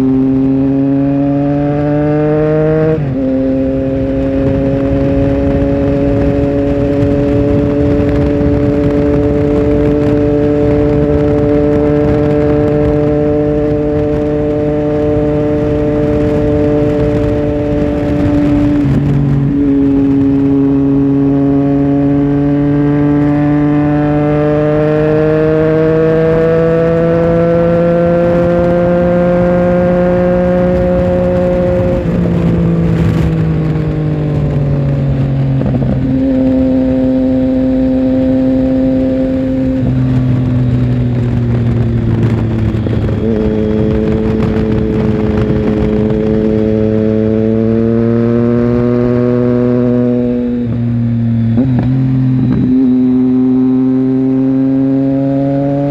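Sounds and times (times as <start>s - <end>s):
motorcycle engine under way: 0.0s - 55.9s.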